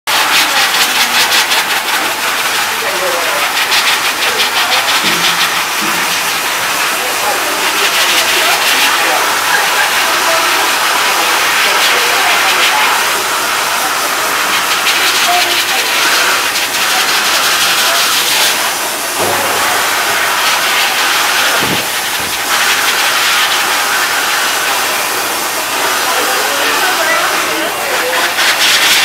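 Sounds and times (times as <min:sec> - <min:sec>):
hose spraying on wet fur: 0:00.1 - 0:29.0.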